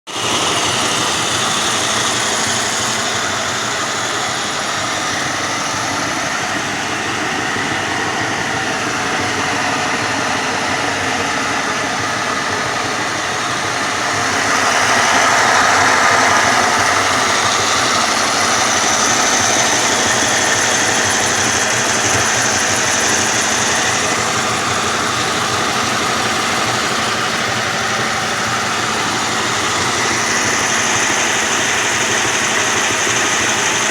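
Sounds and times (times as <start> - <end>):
model train wheels rumbling on rail: 0.1 - 33.9
motor hum: 0.1 - 33.9.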